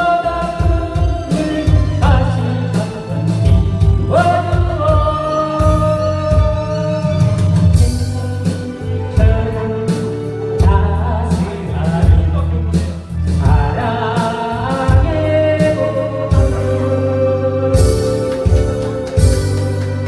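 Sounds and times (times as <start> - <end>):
backing track with bass line: 0.0 - 20.0
person singing pop song: 0.0 - 20.0.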